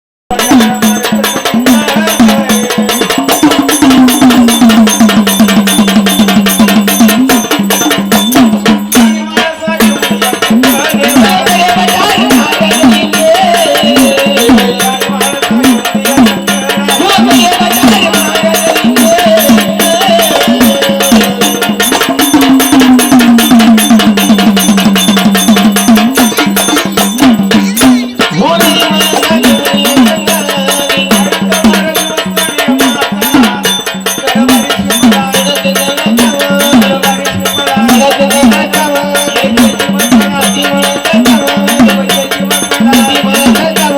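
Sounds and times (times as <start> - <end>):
person singing: 0.3 - 4.7, 8.9 - 23.7, 25.8 - 43.9
fast percussion beats: 0.3 - 43.9.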